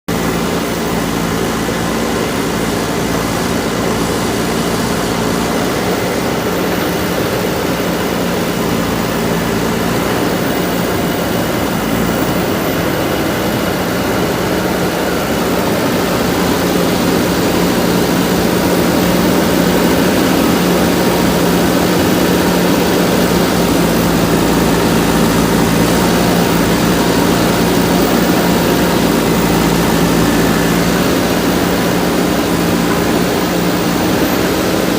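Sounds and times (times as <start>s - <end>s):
diesel engine humming: 0.1s - 34.9s.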